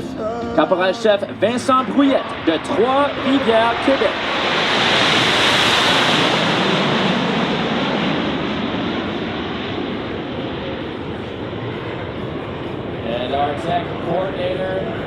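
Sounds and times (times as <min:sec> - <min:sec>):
jet engines passing by: 0:00.0 - 0:15.0.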